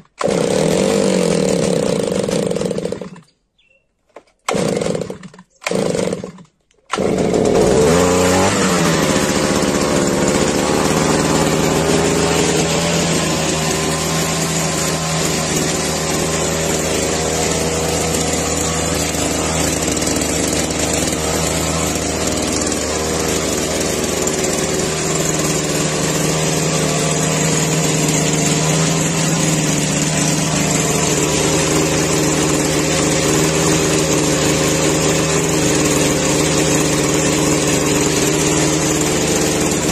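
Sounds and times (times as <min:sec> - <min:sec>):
small two-stroke engine idling: 0:07.0 - 0:39.9.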